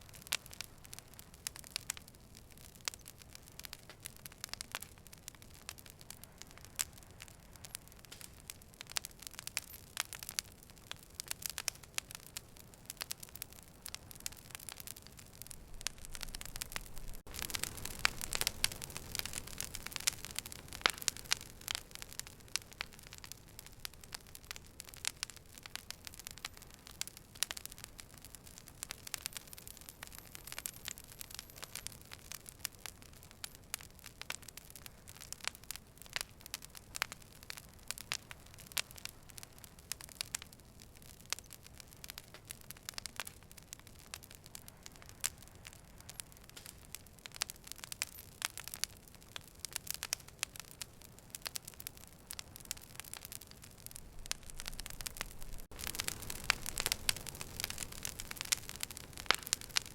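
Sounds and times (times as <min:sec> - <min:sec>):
low steady hiss: 0:00.0 - 0:59.9
wood fire crackling: 0:00.0 - 0:59.9.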